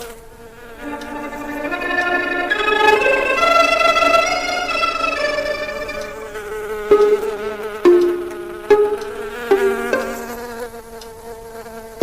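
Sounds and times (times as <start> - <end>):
insect buzzing: 0.0 - 12.0.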